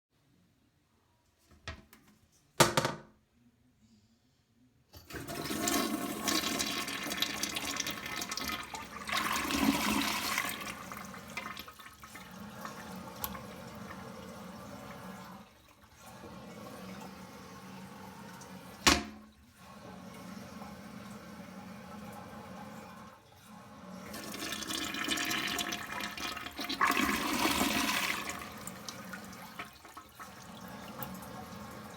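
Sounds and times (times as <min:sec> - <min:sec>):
toilet flush click: 0:05.0 - 0:31.9
toilet water rushing: 0:05.1 - 0:31.9.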